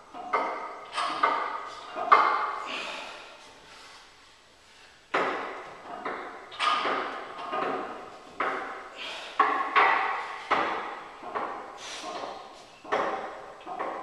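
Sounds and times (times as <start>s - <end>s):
barbell knocking on wooden boards: 0.1s - 3.1s, 5.1s - 14.0s.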